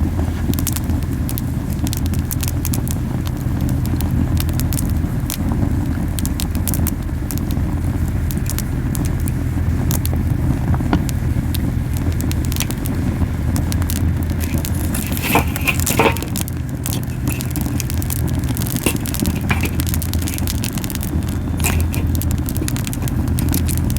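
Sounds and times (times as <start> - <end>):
low rumble of flames: 0.0 - 23.9
wood popping and crackling: 0.0 - 23.9.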